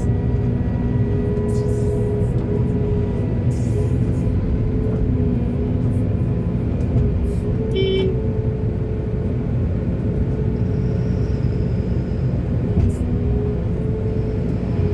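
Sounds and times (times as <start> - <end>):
diesel machinery rumbling: 0.0 - 14.9.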